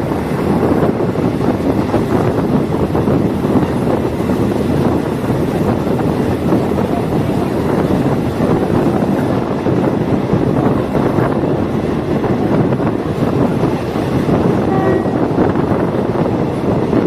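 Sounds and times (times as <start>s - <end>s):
diesel train rumble: 0.0s - 17.0s
wind noise on microphone: 0.0s - 17.0s.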